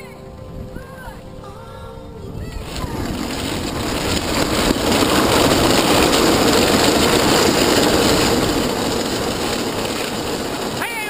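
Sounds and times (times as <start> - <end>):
cart wheels rolling on asphalt: 0.0 - 11.0.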